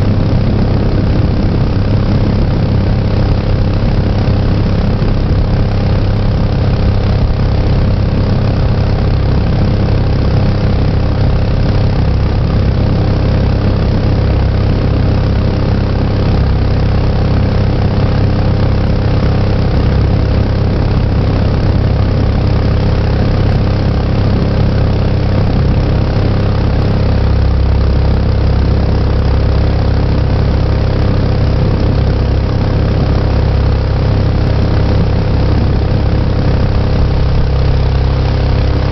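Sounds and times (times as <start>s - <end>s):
small boat engine running: 0.0s - 38.9s.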